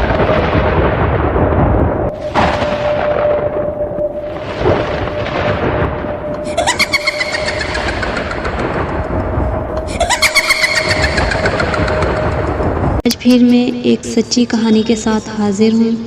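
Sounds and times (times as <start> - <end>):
rumbling thunder-like crashes: 0.0 - 13.1.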